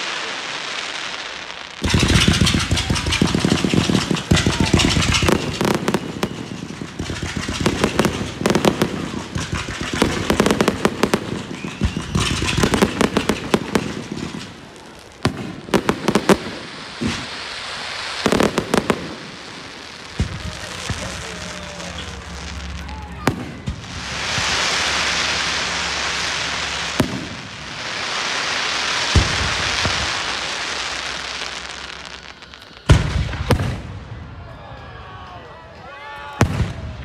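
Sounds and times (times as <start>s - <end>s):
steady hiss: 0.0s - 22.8s, 23.6s - 33.4s
fireworks crackling: 0.0s - 37.0s
firework shells bursting with bangs: 0.7s - 34.0s.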